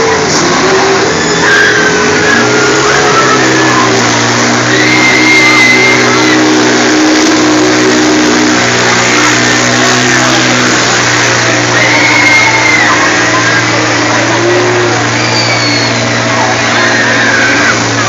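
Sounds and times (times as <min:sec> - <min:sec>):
dense crowd din: 0:00.0 - 0:18.0
loud fairground music: 0:00.0 - 0:18.0
riders screaming: 0:00.0 - 0:18.0.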